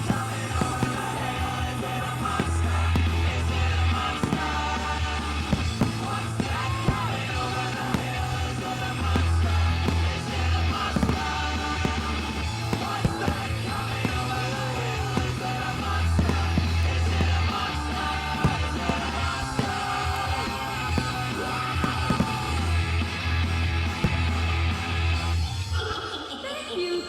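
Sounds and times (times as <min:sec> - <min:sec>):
firework bursts banging: 0:00.0 - 0:25.4
rock song with singing: 0:00.0 - 0:27.0.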